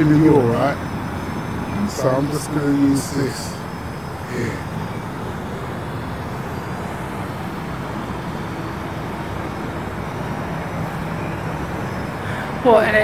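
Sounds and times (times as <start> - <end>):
constant rushing noise: 0.0 - 13.0
drone propeller hum: 0.0 - 13.0.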